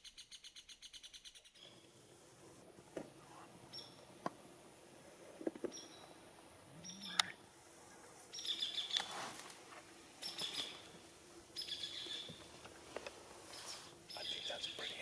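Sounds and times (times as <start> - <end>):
songbird singing: 0.0 - 2.2, 3.0 - 4.6, 5.4 - 9.3, 10.2 - 15.0.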